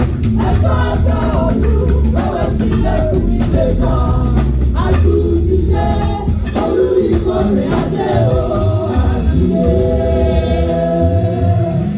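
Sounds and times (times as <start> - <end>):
gospel music with drum beat: 0.0 - 11.9
voices singing together: 0.0 - 11.9.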